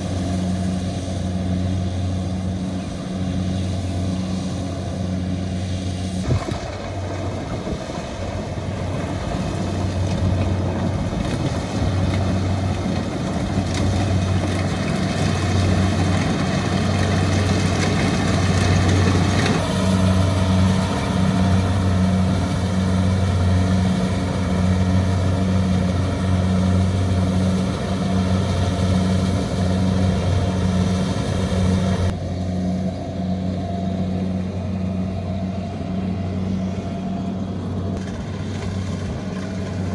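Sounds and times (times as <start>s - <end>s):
harvester diesel engine running: 0.0s - 39.9s
machinery noise: 0.0s - 39.9s.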